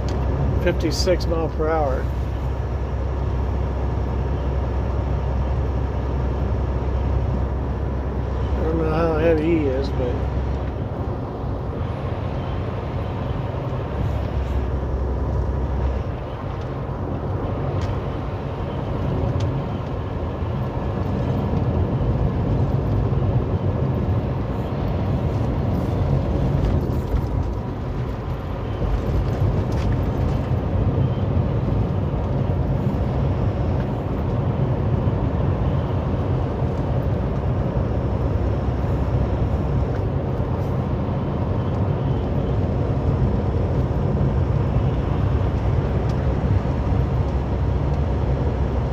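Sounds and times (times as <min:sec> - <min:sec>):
road noise: 0:00.0 - 0:48.9
truck diesel engine drone: 0:00.0 - 0:48.9.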